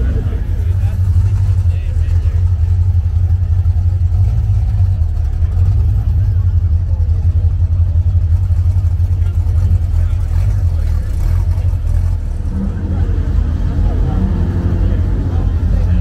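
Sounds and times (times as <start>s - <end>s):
car exhaust rumble: 0.0s - 16.0s.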